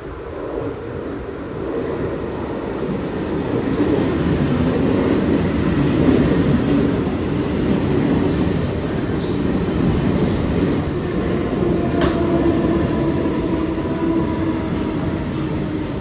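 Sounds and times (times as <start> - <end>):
train wheels rumbling on rail: 0.1 - 16.0.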